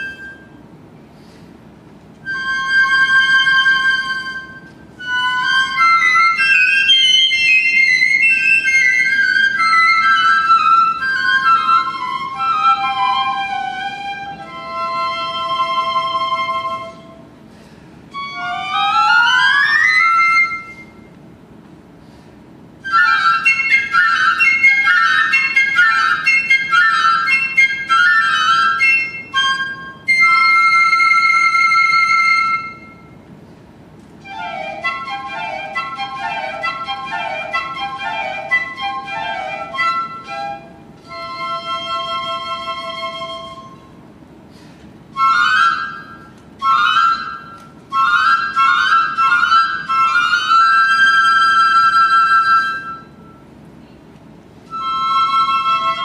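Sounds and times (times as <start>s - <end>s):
piccolos playing duet: 0.0s - 0.7s, 2.1s - 21.1s, 22.8s - 33.3s, 34.2s - 53.7s, 54.6s - 56.0s.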